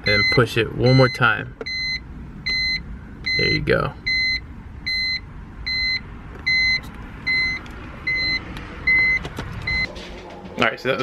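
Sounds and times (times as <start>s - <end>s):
electronic warning chime beeping: 0.0s - 9.9s
low background rumble: 0.0s - 11.0s.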